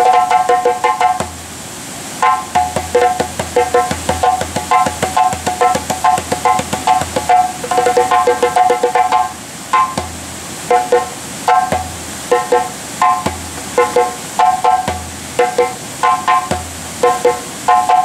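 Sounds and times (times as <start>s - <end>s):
djembe drumming: 0.0s - 1.4s, 2.2s - 18.0s.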